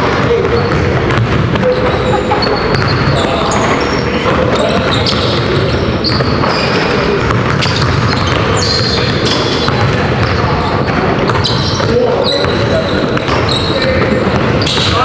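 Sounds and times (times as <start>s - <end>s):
basketballs bouncing on gym floor: 0.0s - 15.0s.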